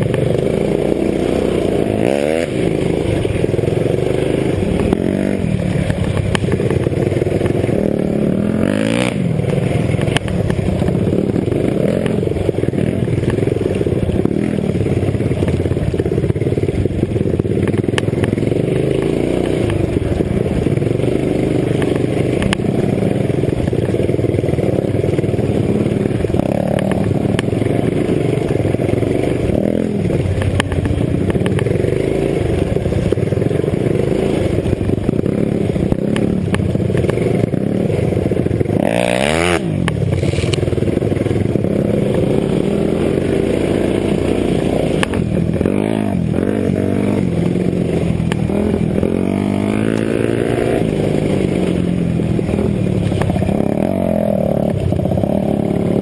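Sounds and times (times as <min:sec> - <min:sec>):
bike rattling over bumps: 0:00.0 - 0:56.0
dirt bike engine revving: 0:00.0 - 0:56.0.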